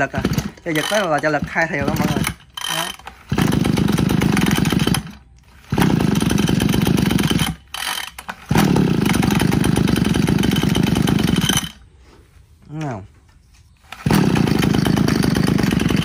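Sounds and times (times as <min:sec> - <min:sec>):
brush cutter engine revving: 0:00.0 - 0:11.8, 0:13.8 - 0:16.0.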